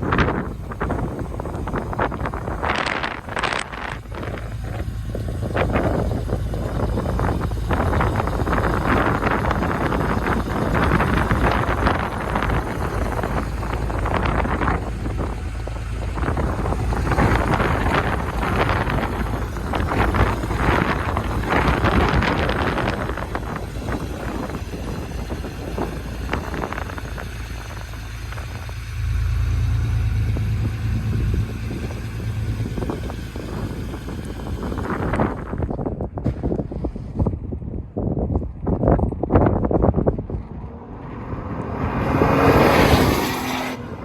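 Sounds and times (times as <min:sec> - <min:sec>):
car engine running: 0:00.0 - 0:36.8
heavy low rumble: 0:00.0 - 0:44.0
wind buffeting microphone: 0:00.0 - 0:44.0.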